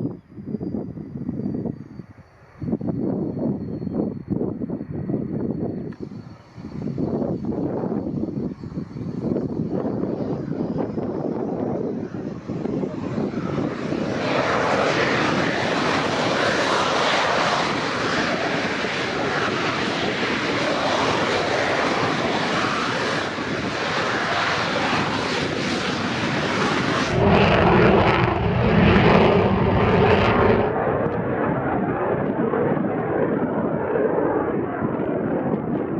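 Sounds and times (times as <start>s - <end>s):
aircraft engine noise: 0.0s - 35.9s
wind buffeting microphone: 0.0s - 35.9s.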